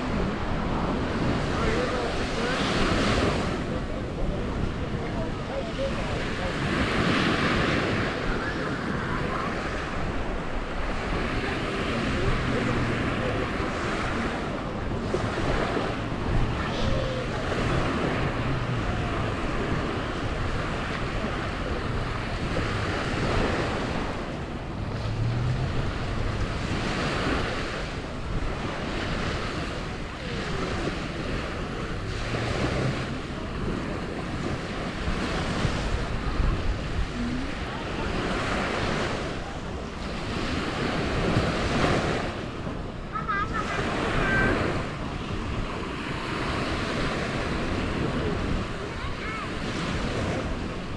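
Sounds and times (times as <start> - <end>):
sea waves washing onto beach: 0.0 - 50.9
wind buffeting microphone: 0.0 - 50.9.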